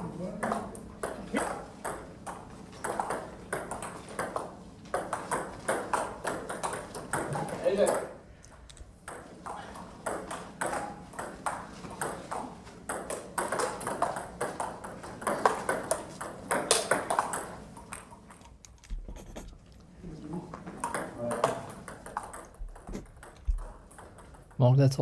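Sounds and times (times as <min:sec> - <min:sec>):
table tennis ball clicking: 0:00.4 - 0:08.0, 0:08.7 - 0:18.5, 0:20.8 - 0:24.5.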